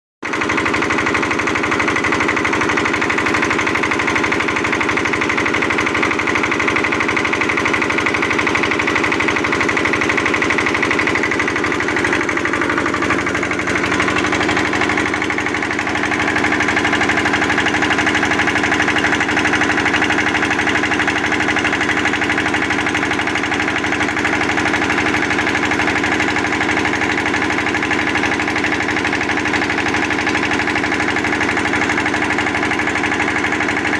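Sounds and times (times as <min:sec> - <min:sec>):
diesel generator running: 0:00.2 - 0:33.9.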